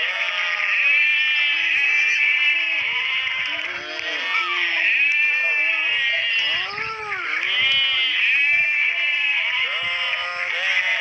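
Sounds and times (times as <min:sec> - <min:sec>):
animals crying: 0:00.0 - 0:11.0.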